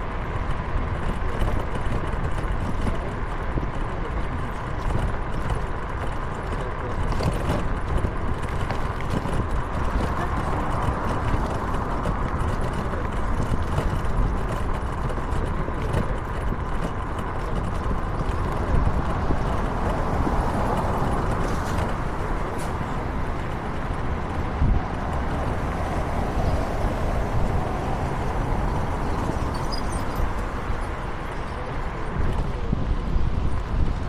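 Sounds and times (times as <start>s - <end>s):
rushing road and wind noise: 0.0s - 34.0s.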